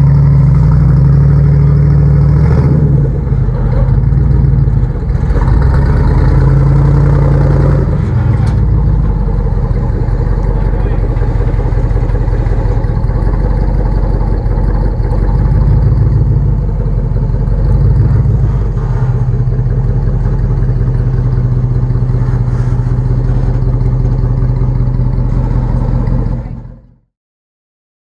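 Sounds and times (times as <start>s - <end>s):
car engine running under load: 0.0s - 27.1s.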